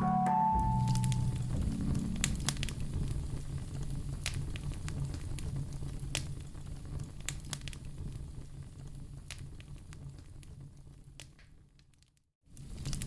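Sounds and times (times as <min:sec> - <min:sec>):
wood fire crackling: 0:01.0 - 0:13.0.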